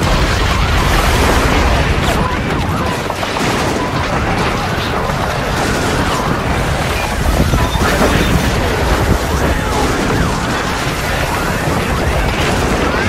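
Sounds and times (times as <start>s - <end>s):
explosions: 0.0s - 13.0s
gunfire: 0.0s - 13.0s.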